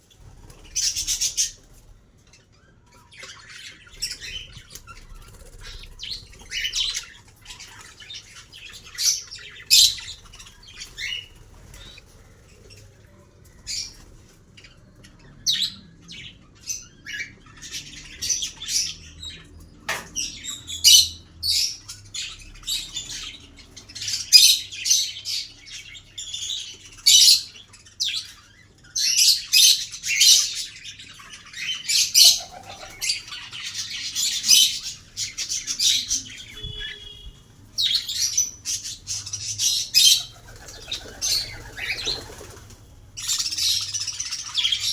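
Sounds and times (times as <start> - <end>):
parrots chirping and squawking: 0.1 - 44.9.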